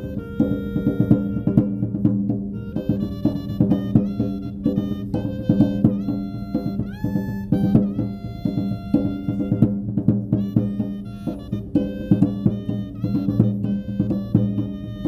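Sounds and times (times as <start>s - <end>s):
bass drum beats: 0.0s - 15.0s
clarinets playing a melody: 0.0s - 15.0s.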